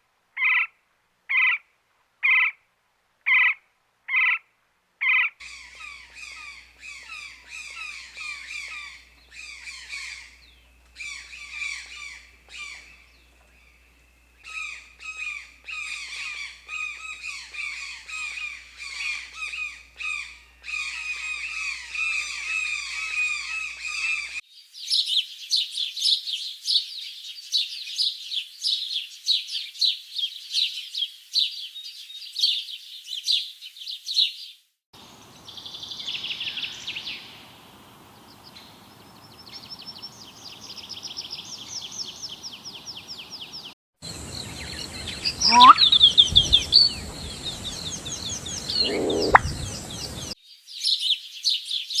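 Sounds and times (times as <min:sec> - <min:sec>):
small birds chirping: 0:05.4 - 0:52.0.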